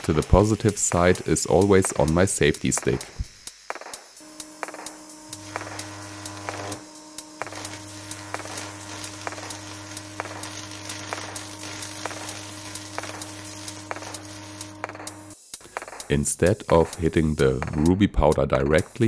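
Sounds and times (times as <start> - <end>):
electric arc buzzing and crackling: 0.0 - 18.0
sharp electric snaps: 0.0 - 18.0.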